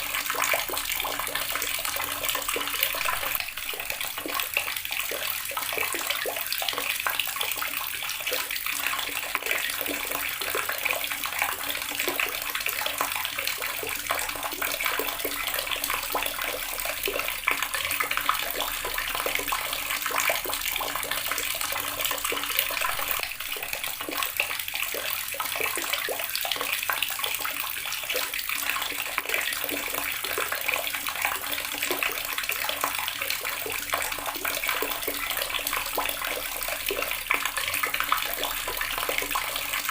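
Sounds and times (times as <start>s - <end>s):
tap water splashing into basin: 0.0s - 39.9s.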